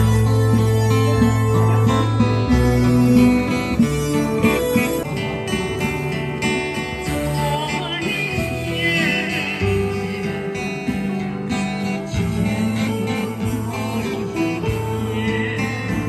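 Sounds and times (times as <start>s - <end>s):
acoustic guitar strumming: 0.0s - 16.0s
person singing: 0.0s - 16.0s.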